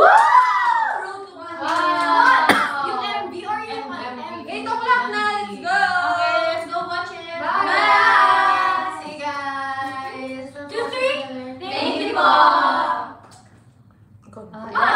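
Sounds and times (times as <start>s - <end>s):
women singing together: 0.0s - 13.3s.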